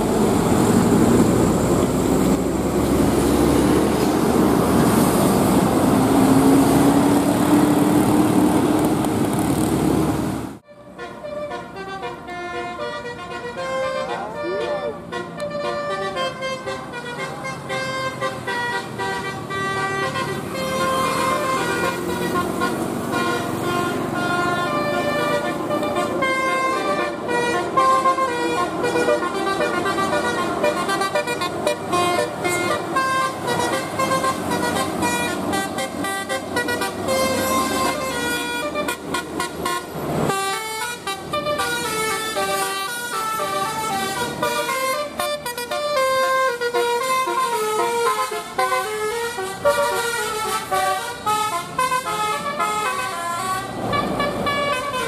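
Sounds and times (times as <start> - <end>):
passing vehicle engines: 0.0 - 55.0
multi-tone musical truck horns: 10.6 - 55.0.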